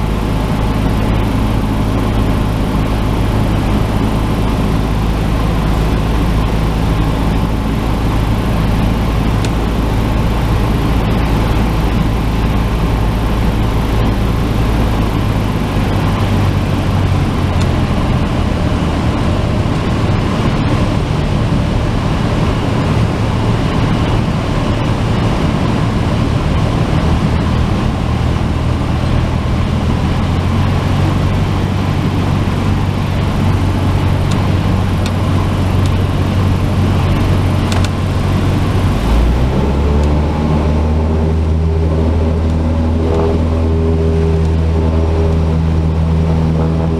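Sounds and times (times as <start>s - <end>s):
airplane engine droning: 0.0s - 46.9s
rush of noise: 0.0s - 46.9s.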